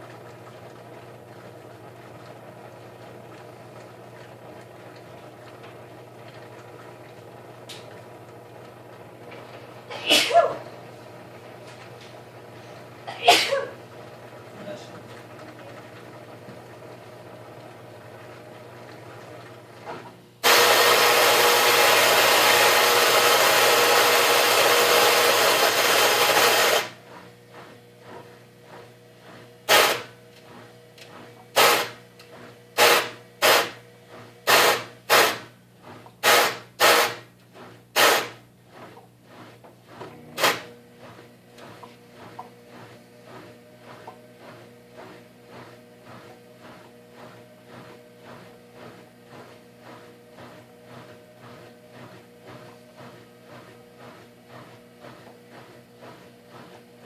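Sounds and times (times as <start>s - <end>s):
washing machine grinding: 0.0s - 57.0s
washing machine humming: 0.0s - 57.0s.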